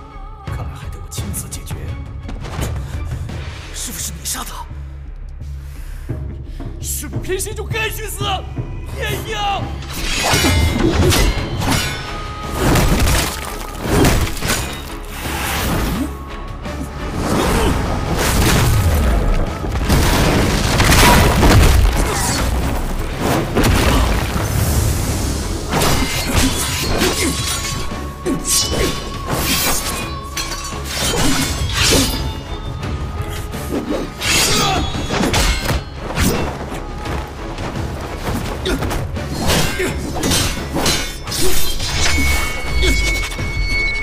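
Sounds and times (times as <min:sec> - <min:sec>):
film music: 0:00.0 - 0:44.0.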